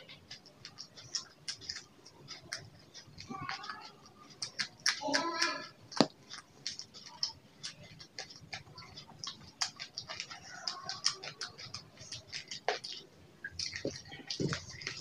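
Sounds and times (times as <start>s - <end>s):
chewing raw chilli: 0.0s - 15.0s
mouth clicks: 0.0s - 15.0s.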